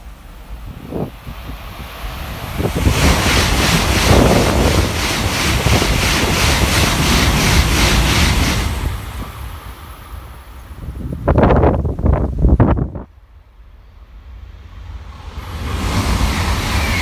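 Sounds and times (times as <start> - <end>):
rhythmic beat of train cars: 0.0 - 12.2, 13.0 - 17.0
high-speed train passing: 0.0 - 17.0.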